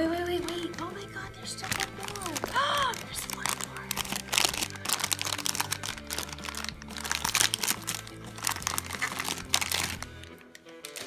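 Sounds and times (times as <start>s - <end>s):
background music: 0.0s - 11.0s
plastic packet crinkling and tearing: 0.4s - 11.0s.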